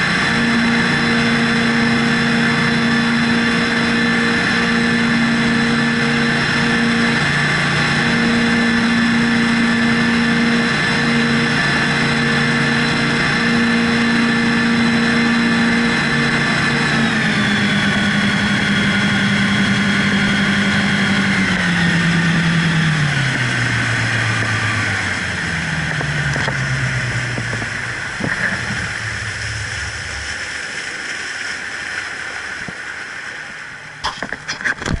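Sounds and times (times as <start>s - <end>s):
outboard engines at high speed: 0.0s - 35.0s
rushing water: 0.0s - 35.0s
wind: 0.0s - 35.0s.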